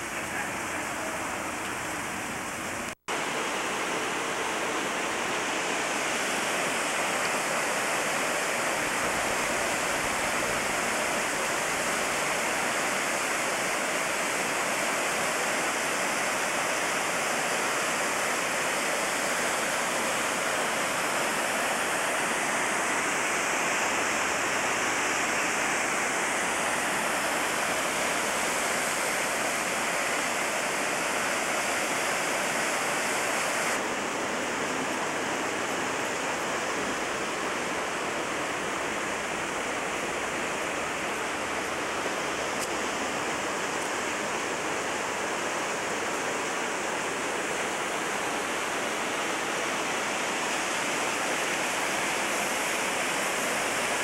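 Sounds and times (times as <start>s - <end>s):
waterfall rushing over rock: 0.0s - 54.0s.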